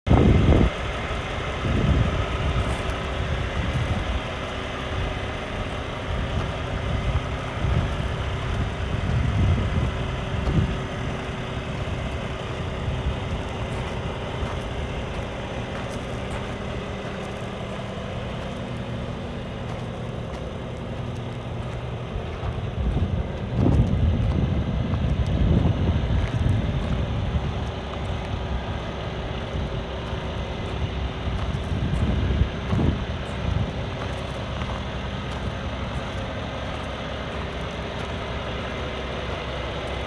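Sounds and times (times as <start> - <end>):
diesel truck engine idling: 0.0 - 40.0
wind buffeting microphone: 0.1 - 40.0.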